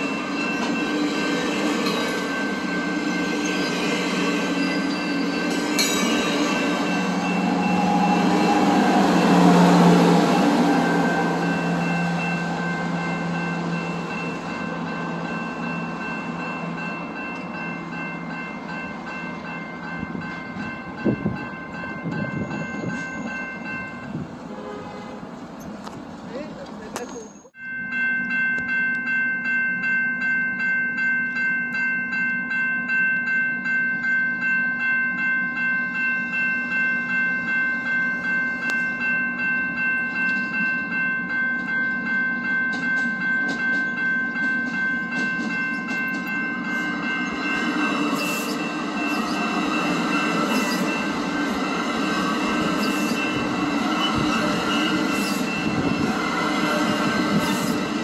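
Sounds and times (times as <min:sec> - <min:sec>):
railway bell ringing: 0:00.0 - 0:25.1, 0:26.3 - 0:58.0
train rumble and wheel noise: 0:00.0 - 0:58.0.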